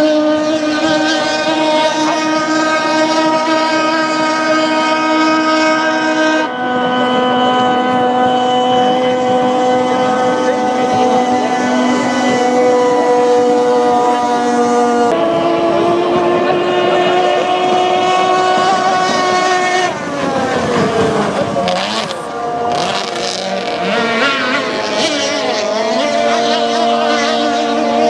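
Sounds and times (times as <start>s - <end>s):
racing boat engines revving: 0.0s - 28.0s.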